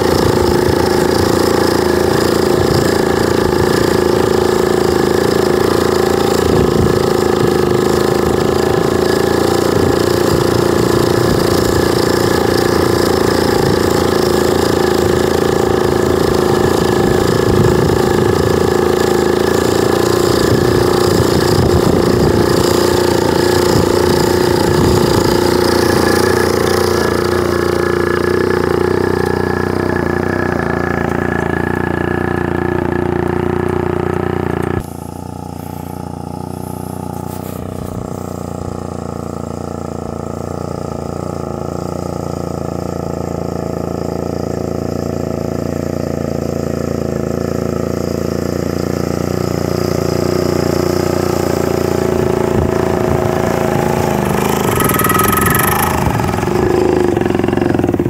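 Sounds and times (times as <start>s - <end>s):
motorcycle two-stroke engine running: 0.0s - 58.0s.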